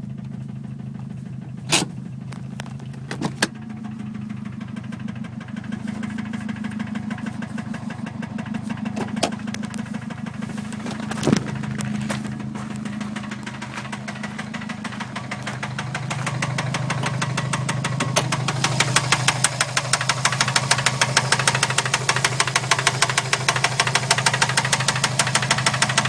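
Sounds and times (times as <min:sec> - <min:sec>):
car engine running: 0:00.0 - 0:26.0
rapid rhythmic engine knocking: 0:00.0 - 0:26.0.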